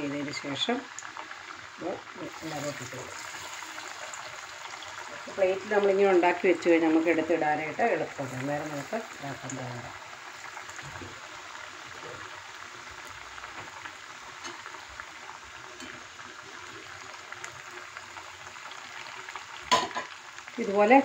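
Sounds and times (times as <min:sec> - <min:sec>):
fritters sizzling in hot oil: 0:00.0 - 0:21.0.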